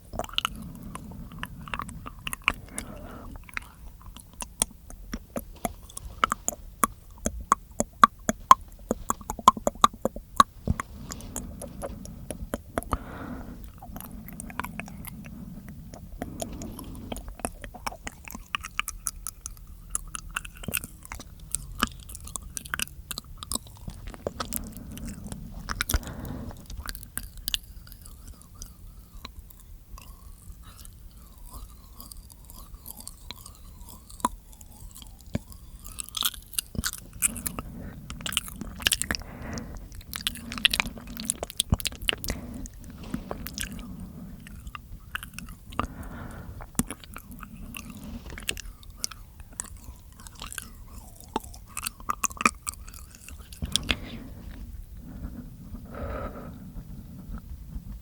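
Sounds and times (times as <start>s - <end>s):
tongue clicks and lip smacks: 0.0s - 56.6s
soft breaths: 0.0s - 58.0s.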